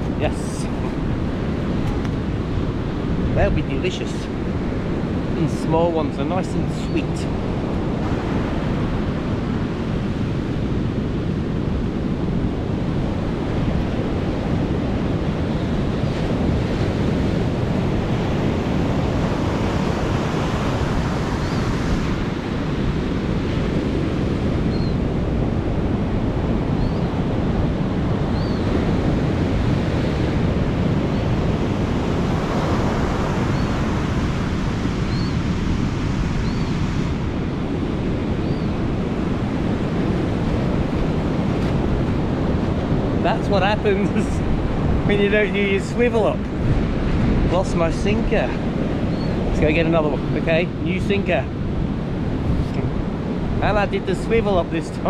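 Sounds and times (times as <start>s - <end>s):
ocean waves breaking: 0.0s - 55.0s
wind on microphone: 0.0s - 55.0s.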